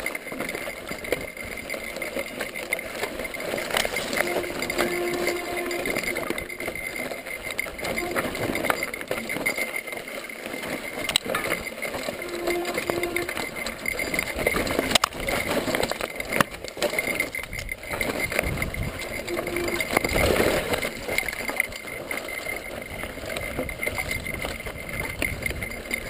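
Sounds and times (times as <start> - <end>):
bike wheels knocking on rocks: 0.0 - 26.0
tyres crunching over loose stones: 0.0 - 26.0.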